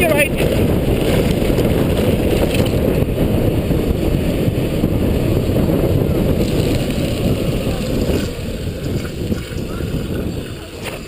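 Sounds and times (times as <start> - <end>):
bike rumbling over trail: 0.0 - 11.0
wind buffeting microphone: 0.0 - 11.0.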